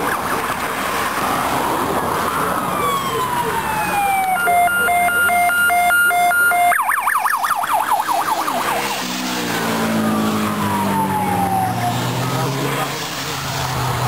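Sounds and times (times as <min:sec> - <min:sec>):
police siren: 0:00.0 - 0:14.0
vehicle engine: 0:00.0 - 0:14.0.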